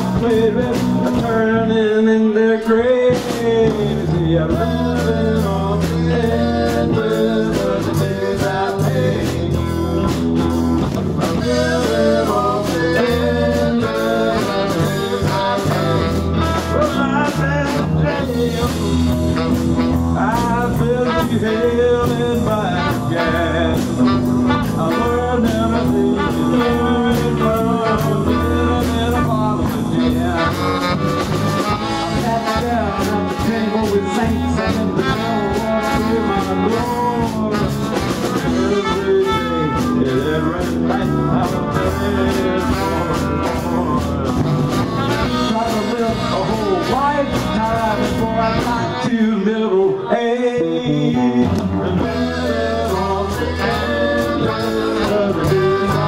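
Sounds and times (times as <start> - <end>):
trumpet: 0.0 - 49.8, 51.2 - 56.0
bass guitar: 0.0 - 56.0
drums: 0.0 - 56.0
electric guitar: 0.0 - 56.0
saxophone: 0.0 - 56.0.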